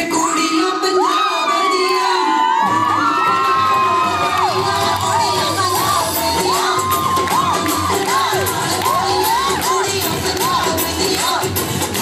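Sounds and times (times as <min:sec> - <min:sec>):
crowd cheering and whooping: 0:00.0 - 0:10.7
loud dance music: 0:00.0 - 0:12.0.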